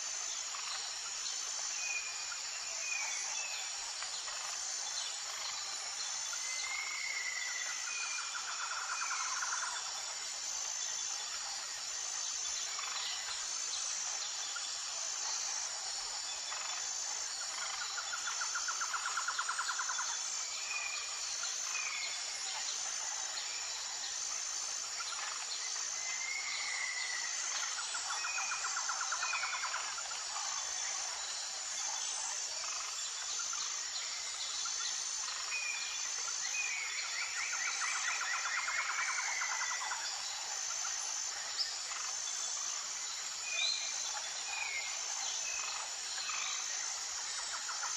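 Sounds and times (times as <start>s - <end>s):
insects trilling chorus: 0.0s - 47.9s
rapid pulsing insect trill: 0.0s - 47.9s.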